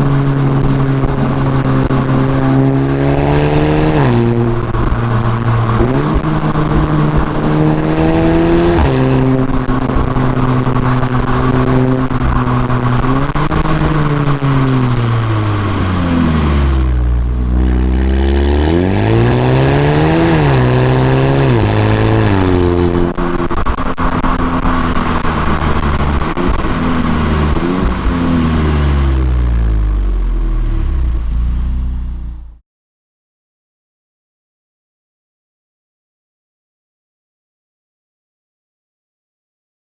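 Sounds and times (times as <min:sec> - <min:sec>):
car engine and exhaust revving: 0:00.0 - 0:32.6.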